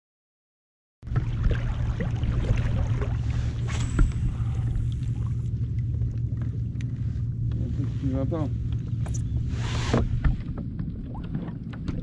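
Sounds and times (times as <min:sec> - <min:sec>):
steady low rumble: 0:01.0 - 0:12.0
water lapping against kayak hull: 0:01.0 - 0:12.0.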